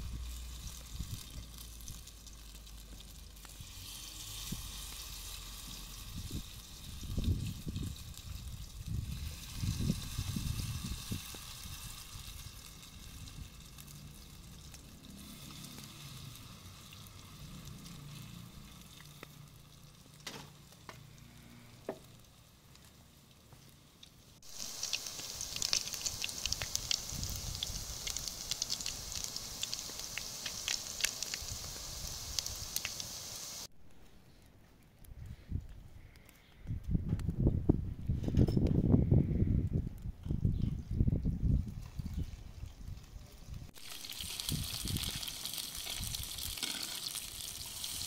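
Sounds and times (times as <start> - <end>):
fritters sizzling in hot oil: 0.0 - 33.7, 41.5 - 48.0.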